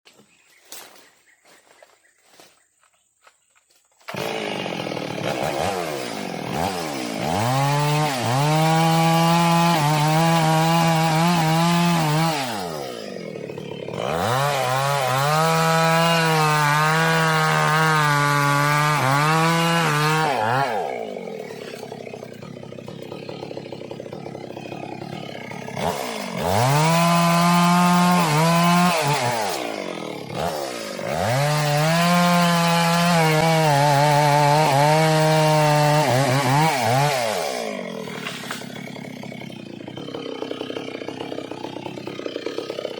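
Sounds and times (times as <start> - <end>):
chainsaw cutting into tree trunk: 4.0 - 42.9.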